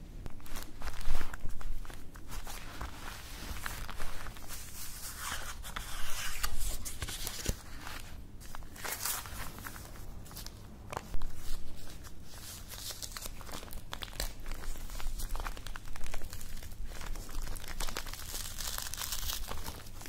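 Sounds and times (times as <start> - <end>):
paper wrapping crinkling: 0.0 - 20.0.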